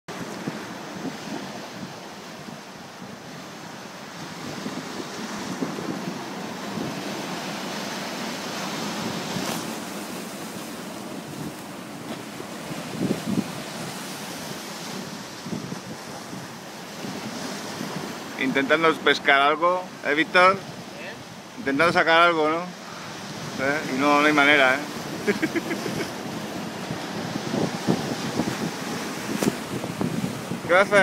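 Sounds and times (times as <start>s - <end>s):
wind buffeting microphone: 0.1s - 22.1s, 22.8s - 31.0s
sea surf breaking over rocks: 0.1s - 31.0s.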